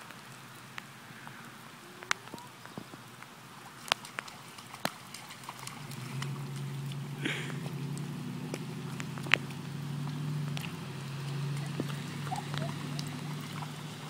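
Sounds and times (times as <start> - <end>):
bare feet splashing in puddle: 0.0 - 14.0.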